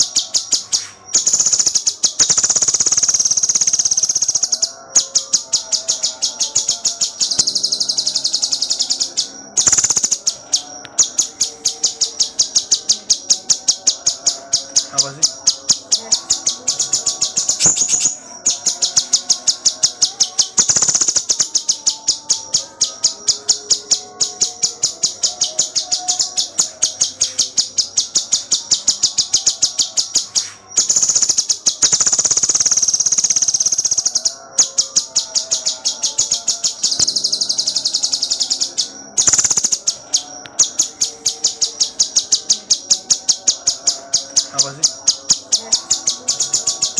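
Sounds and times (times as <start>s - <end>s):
songbird singing rapid high notes: 0.0s - 46.9s.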